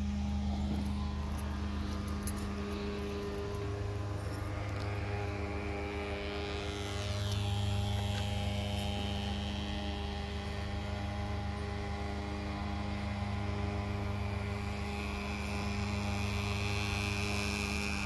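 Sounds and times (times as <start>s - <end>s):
engine drone: 0.0s - 18.0s
faint high whine: 0.0s - 18.0s.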